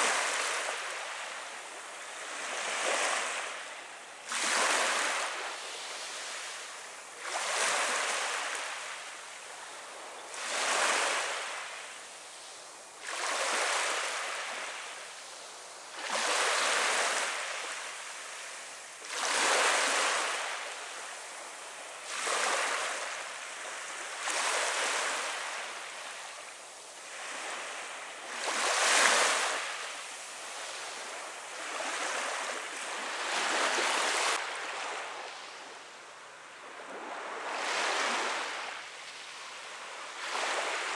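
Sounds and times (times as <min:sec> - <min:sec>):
small waves washing on sand: 0:00.0 - 0:40.9.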